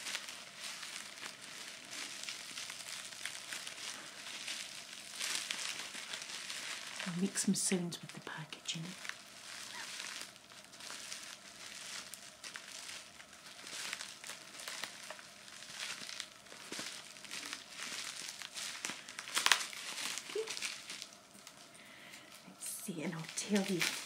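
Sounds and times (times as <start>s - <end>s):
bubble wrap crackling: 0.0s - 24.0s.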